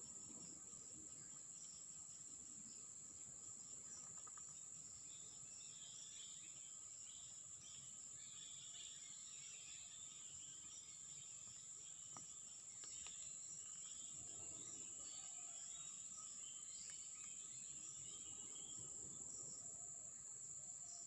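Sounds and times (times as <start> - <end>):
faint chirps: 0.0 - 20.1
insects droning: 0.0 - 21.0.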